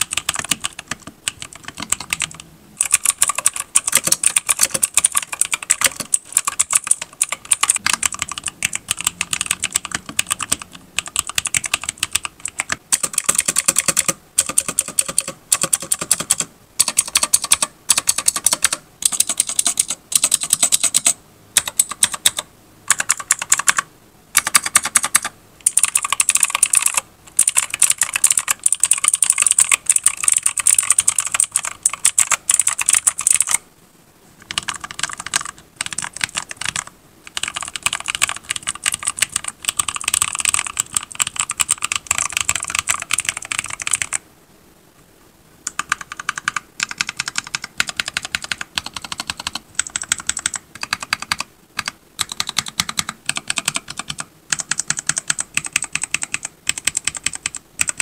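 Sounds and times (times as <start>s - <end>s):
rapid mechanical keyboard typing: 0.0s - 33.6s, 34.4s - 44.2s, 45.6s - 58.0s.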